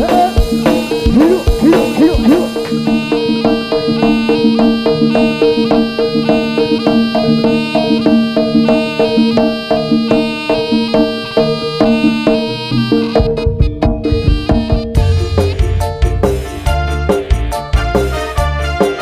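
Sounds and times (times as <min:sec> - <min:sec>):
drums and percussion beat: 0:00.0 - 0:11.2, 0:11.8 - 0:19.0
gamelan held tones: 0:00.0 - 0:17.3
shawm playing reedy melody: 0:00.0 - 0:19.0.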